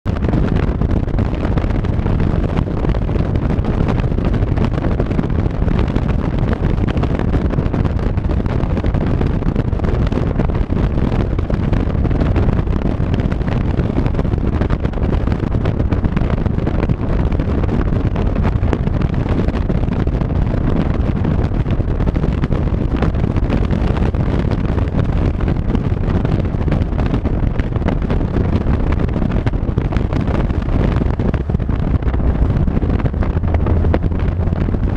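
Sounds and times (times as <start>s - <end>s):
wind buffeting microphone: 0.0s - 34.9s
vehicle road noise: 0.1s - 34.9s.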